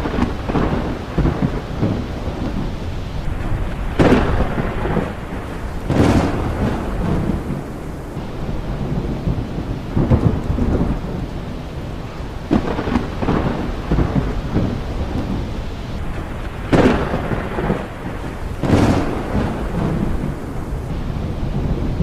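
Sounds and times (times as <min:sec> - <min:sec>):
steady rain: 0:00.0 - 0:22.0
thunder rumbling and cracking: 0:00.0 - 0:22.0.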